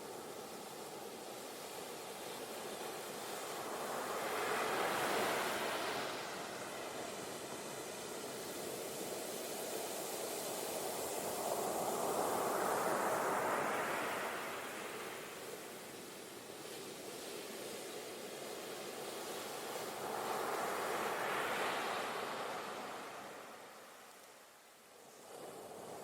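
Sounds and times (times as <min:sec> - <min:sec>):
waves washing in: 0:00.0 - 0:26.0.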